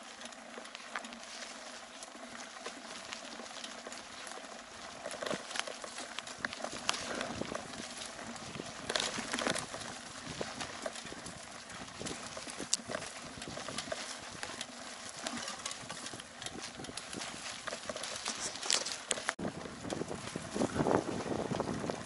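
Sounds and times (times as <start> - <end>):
bike rattling over bumps: 0.0 - 22.0
bike tyres on leaves and dirt: 0.0 - 22.0.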